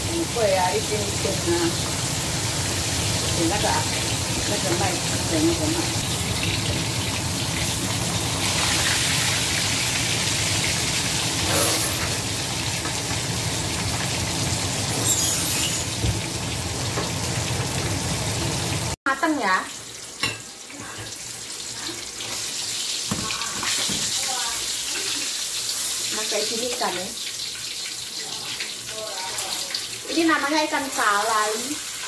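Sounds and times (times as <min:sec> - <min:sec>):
fish sizzling in hot oil: 0:00.0 - 0:32.0.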